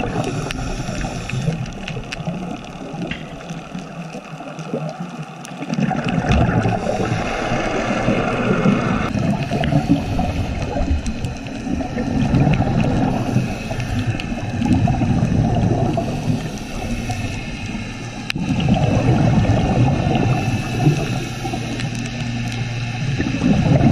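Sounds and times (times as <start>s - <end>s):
underwater exhaust bubbles gurgling: 0.0s - 23.9s.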